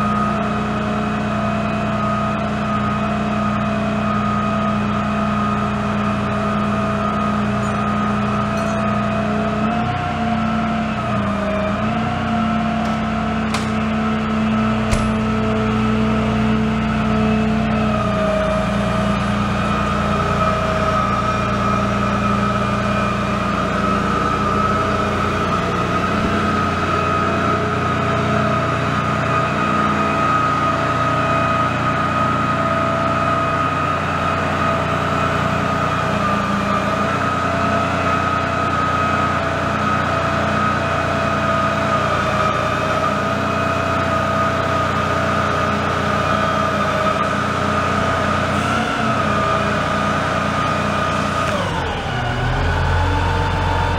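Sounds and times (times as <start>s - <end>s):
diesel engine droning: 0.0s - 53.9s
hydraulic pump high whine: 0.0s - 53.9s.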